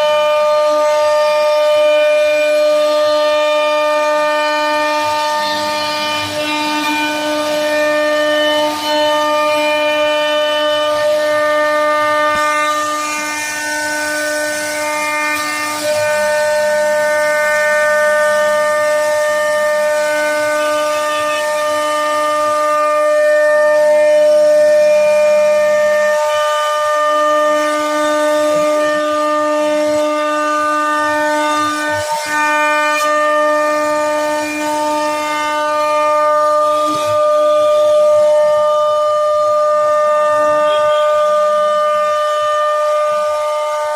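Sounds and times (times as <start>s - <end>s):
low router tone: 0.0s - 43.9s
wood router high-pitched whine: 0.0s - 43.9s.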